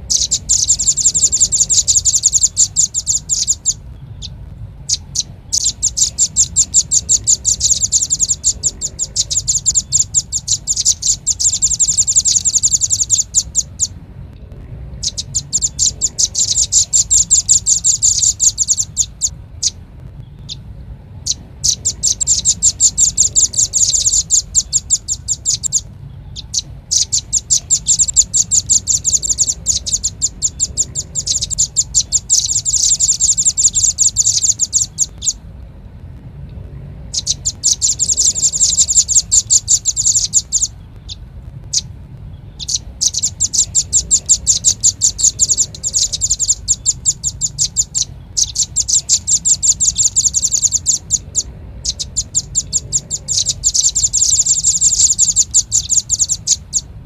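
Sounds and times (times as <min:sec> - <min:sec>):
bird calls of sharp high chips: 0:00.0 - 0:14.0, 0:15.0 - 0:35.5, 0:37.1 - 0:56.9
faint low hum: 0:00.0 - 0:57.0.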